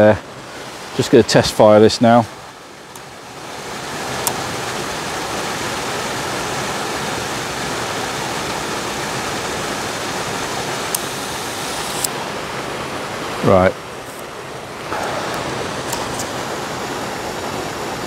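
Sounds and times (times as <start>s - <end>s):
waterfall rushing: 2.6s - 18.0s.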